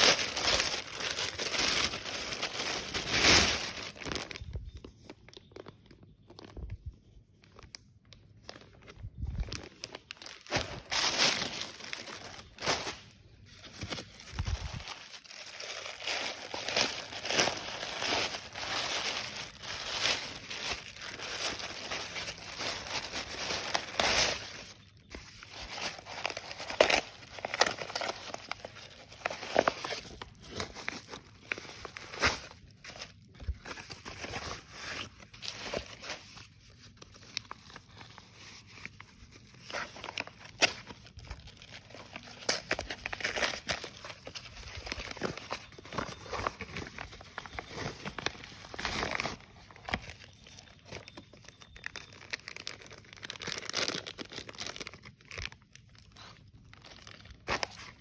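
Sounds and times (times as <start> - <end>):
packaging tearing: 0.0 - 4.6, 8.7 - 58.0
packaging crinkling and rustling: 0.0 - 58.0.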